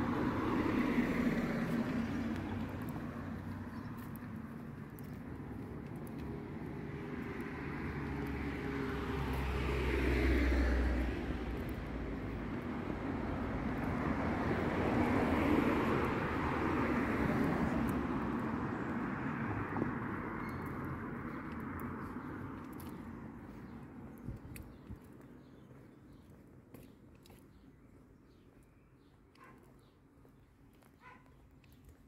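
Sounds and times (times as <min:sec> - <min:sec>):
vehicle engine hum passing: 0:00.0 - 0:27.4
tyre noise of passing vehicle: 0:00.0 - 0:32.0.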